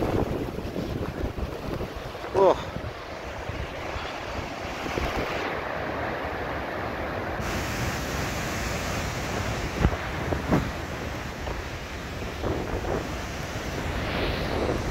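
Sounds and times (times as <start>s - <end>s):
wind buffeting microphone: 0.0s - 6.6s, 7.4s - 14.9s
storm wind through trees: 0.0s - 14.9s.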